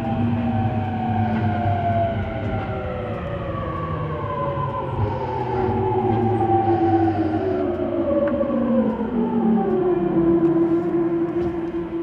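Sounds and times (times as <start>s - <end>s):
train motor inverter whine: 0.0s - 12.0s
wheel and rail running noise: 0.0s - 12.0s.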